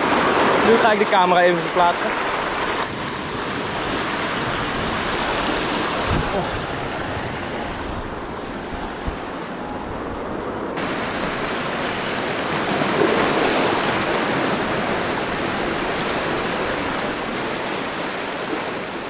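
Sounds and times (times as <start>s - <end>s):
waves washing over rocks: 0.0s - 8.0s, 10.8s - 19.0s.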